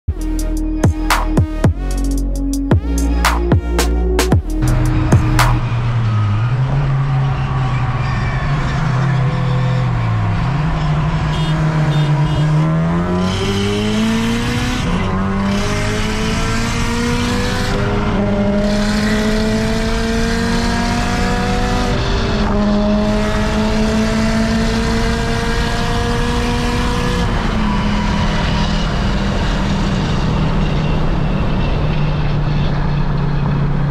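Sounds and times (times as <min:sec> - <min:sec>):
car engine revving through gears: 0:04.4 - 0:33.9.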